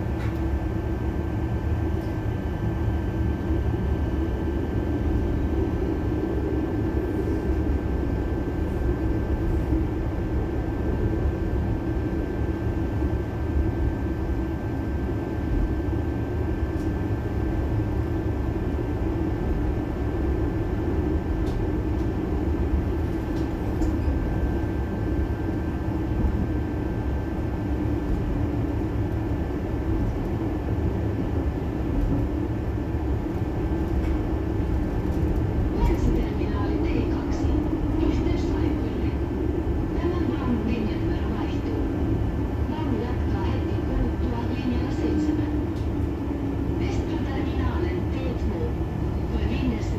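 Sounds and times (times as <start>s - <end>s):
tram wheels rumbling: 0.0s - 49.9s.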